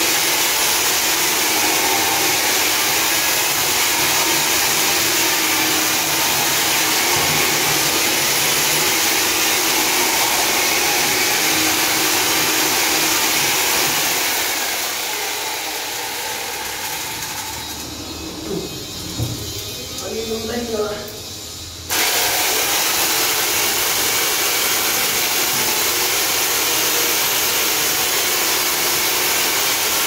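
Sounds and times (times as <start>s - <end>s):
chain saw cutting concrete: 0.0s - 17.3s, 21.9s - 30.0s.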